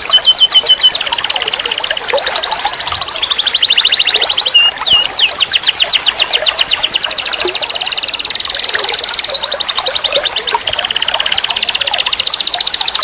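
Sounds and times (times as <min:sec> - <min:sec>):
canary trilling: 0:00.0 - 0:13.0.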